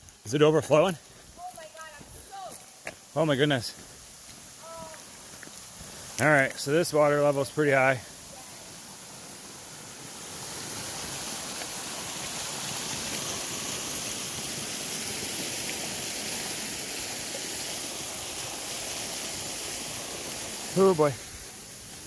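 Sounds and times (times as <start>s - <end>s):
water rushing over a dam: 3.0s - 22.0s.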